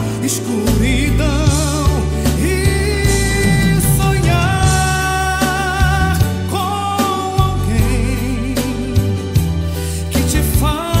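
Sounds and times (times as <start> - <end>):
instrumental backing: 0.0 - 11.0
person singing pop ballad: 0.0 - 11.0.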